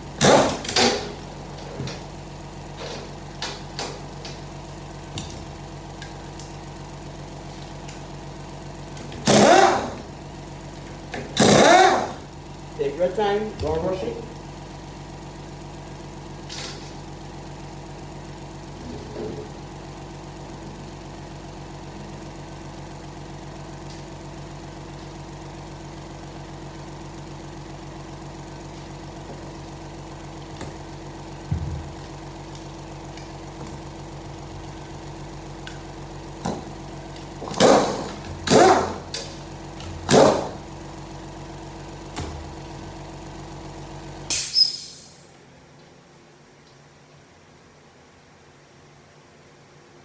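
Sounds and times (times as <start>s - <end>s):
machine hum: 0.0s - 44.3s.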